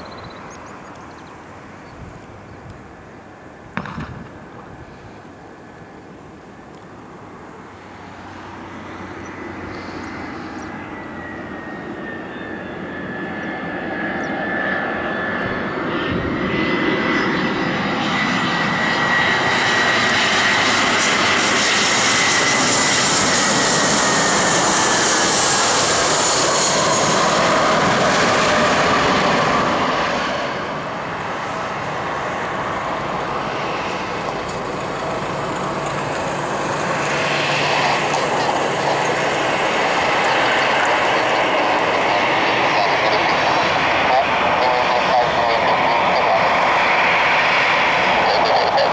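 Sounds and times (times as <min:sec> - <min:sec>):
jet engines landing: 0:00.0 - 0:48.9.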